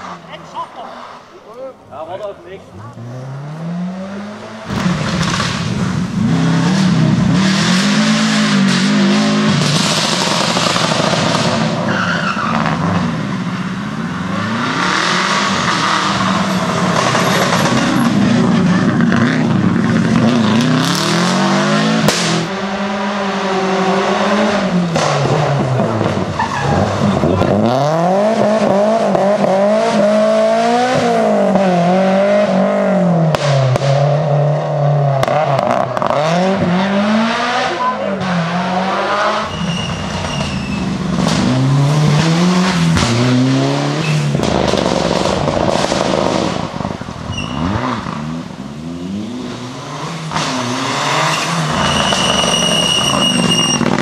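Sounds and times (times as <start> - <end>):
rally car engines revving: 0.0 - 54.0
tyre noise on road: 0.0 - 54.0.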